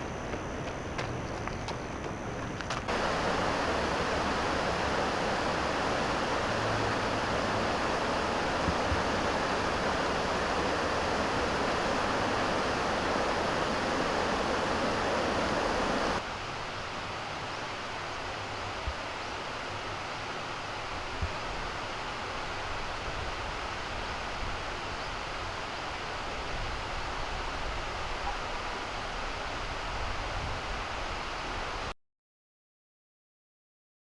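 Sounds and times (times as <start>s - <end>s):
river water rushing: 2.1s - 31.9s.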